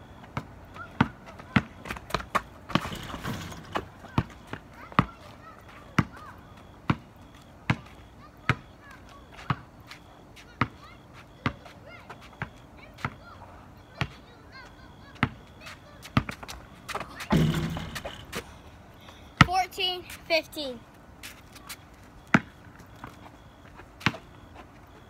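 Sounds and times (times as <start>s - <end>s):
basketball bouncing on asphalt: 0.0s - 20.1s, 21.2s - 25.0s.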